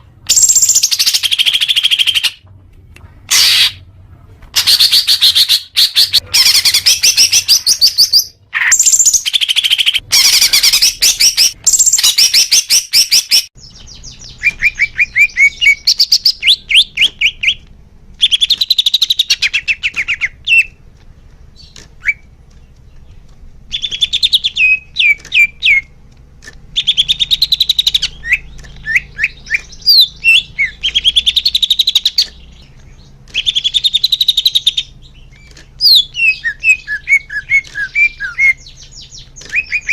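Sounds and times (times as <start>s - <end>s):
bird singing chattering trills: 0.3s - 2.4s, 4.6s - 17.6s, 21.5s - 26.0s, 26.7s - 39.9s.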